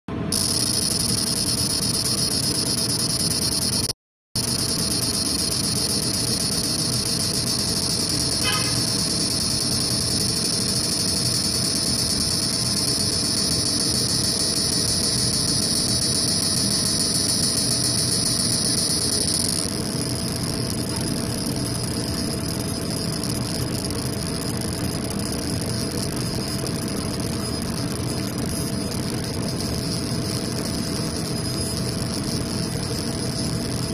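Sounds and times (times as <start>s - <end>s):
high machine whine: 0.1s - 33.9s
machine hum: 0.1s - 33.9s.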